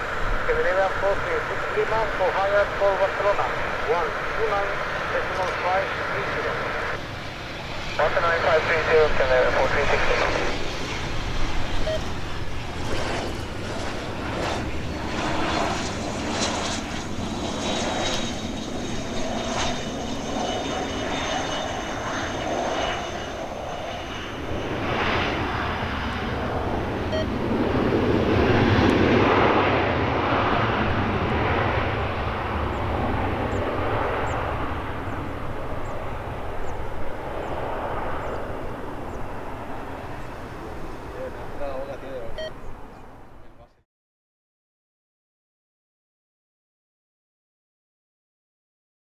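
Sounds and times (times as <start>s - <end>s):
jet engines rushing and whining: 0.0s - 43.7s.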